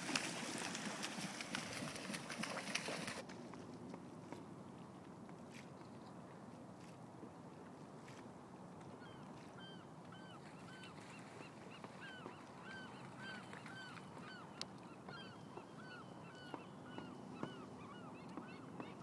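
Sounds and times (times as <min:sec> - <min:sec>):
water: 0:00.0 - 0:19.0.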